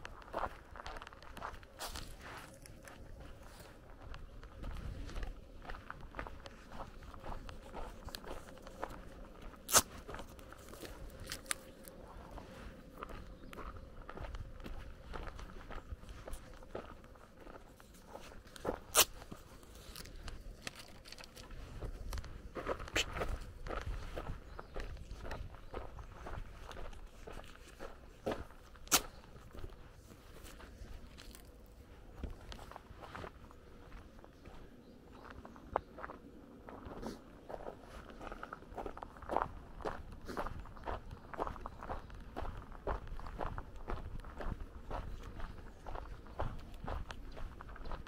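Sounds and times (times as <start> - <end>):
footsteps crunching on gravel: 0.0 - 48.0.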